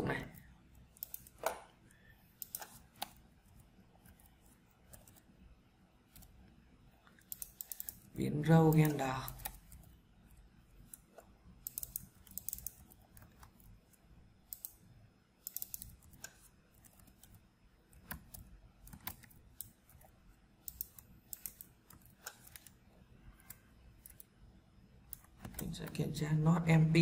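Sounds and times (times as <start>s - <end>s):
faint keyboard typing: 0.0s - 24.4s, 25.0s - 26.2s.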